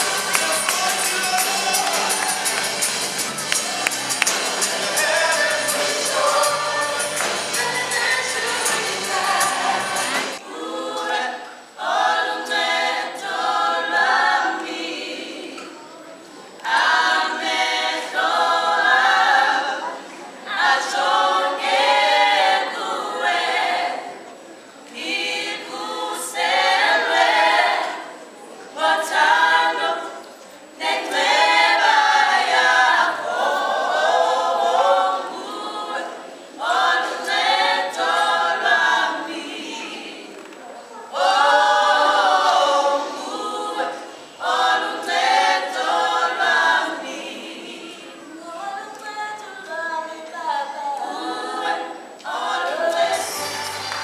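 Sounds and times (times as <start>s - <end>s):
vocal group singing in harmony: 0.0s - 54.0s.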